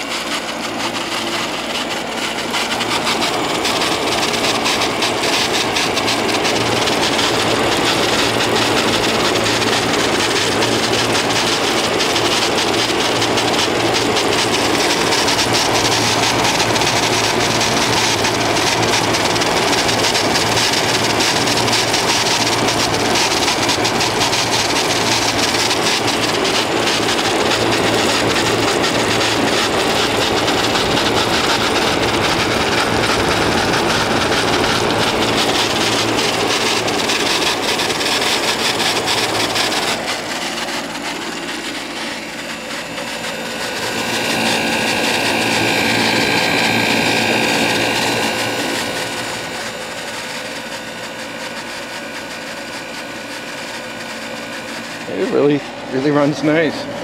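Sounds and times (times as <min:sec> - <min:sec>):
air conditioner running: 0:00.0 - 0:57.0.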